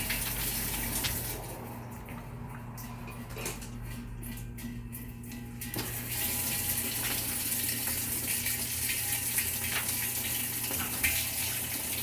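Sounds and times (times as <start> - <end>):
water gushing into washer tub: 0.0 - 3.2, 5.6 - 12.0.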